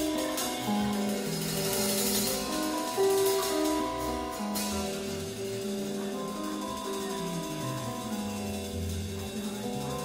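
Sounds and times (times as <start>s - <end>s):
drum kit: 0.0s - 10.0s.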